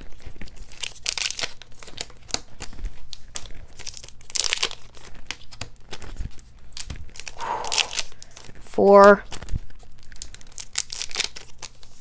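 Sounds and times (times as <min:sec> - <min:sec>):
foil wrappers crinkling: 0:00.1 - 0:08.6, 0:09.3 - 0:12.0.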